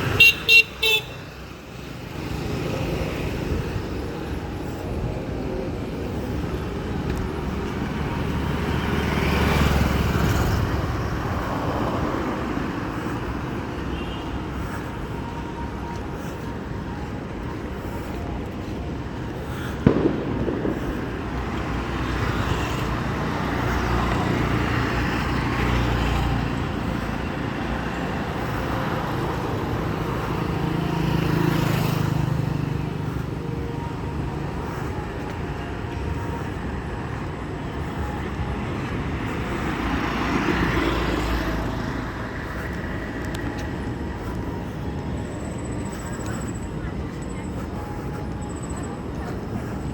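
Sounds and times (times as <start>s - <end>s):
vehicles passing: 0.0s - 49.9s.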